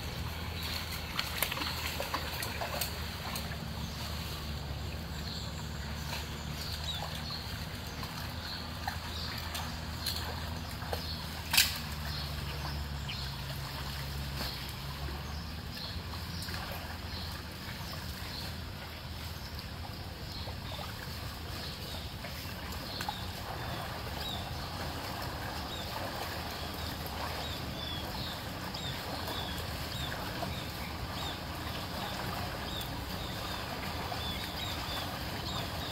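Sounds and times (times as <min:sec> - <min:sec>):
low steady hum: 0:00.0 - 0:35.9
water trickling and sloshing: 0:00.0 - 0:35.9.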